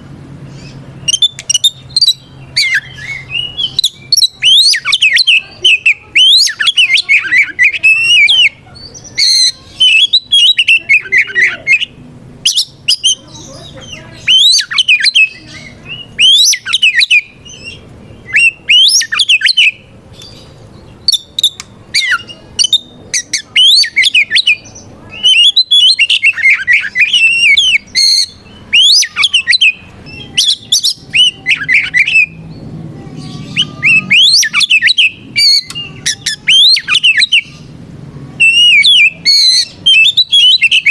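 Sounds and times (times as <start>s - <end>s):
magpie-robin singing: 0.2s - 37.8s, 38.4s - 40.9s.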